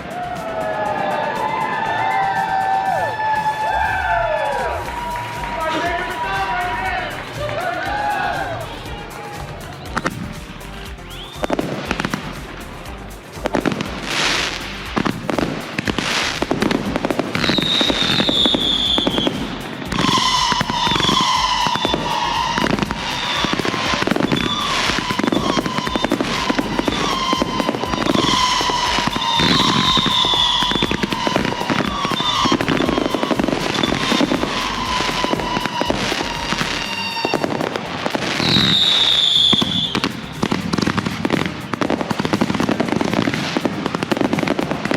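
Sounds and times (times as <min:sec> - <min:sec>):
fireworks going off: 0:00.0 - 0:44.9.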